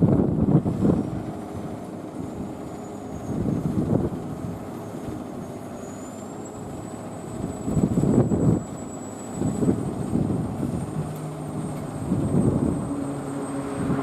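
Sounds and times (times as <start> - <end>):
road noise: 0.0 - 14.0
truck engine running: 0.0 - 14.0.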